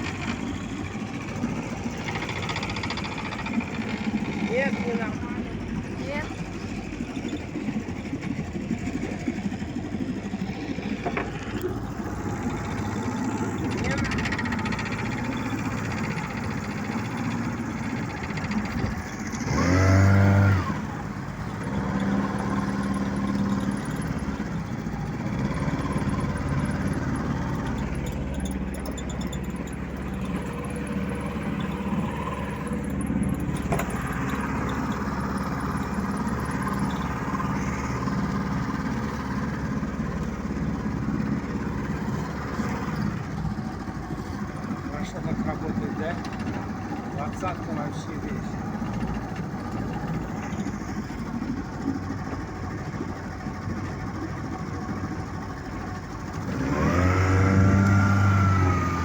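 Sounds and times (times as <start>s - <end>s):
outboard motor running and revving: 0.0s - 59.0s.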